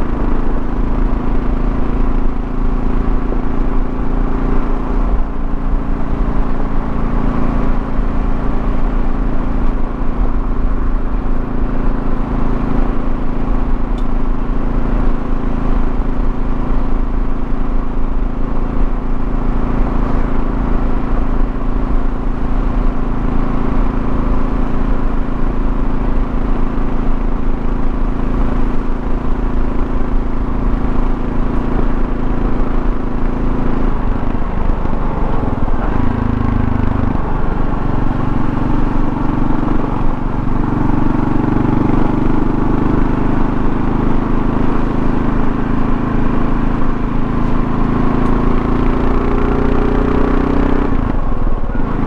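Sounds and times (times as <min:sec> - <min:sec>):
motorcycle engine cruising: 0:00.0 - 0:52.0
road noise: 0:00.0 - 0:52.0.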